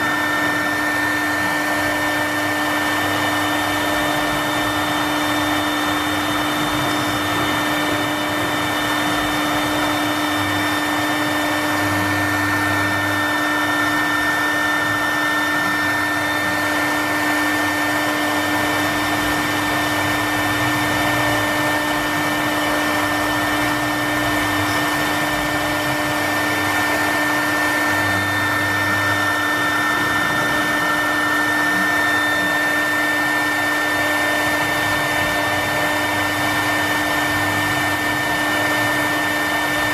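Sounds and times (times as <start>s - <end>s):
spindle motor whine: 0.0s - 39.9s.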